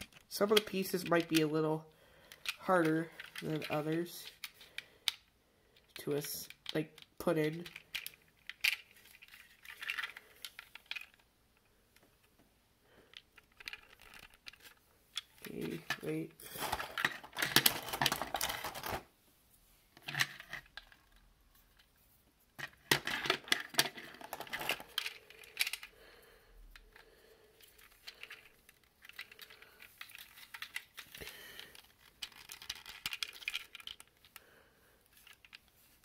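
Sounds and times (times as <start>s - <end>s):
plastic parts clicking and rattling: 0.0s - 19.1s, 19.9s - 36.0s.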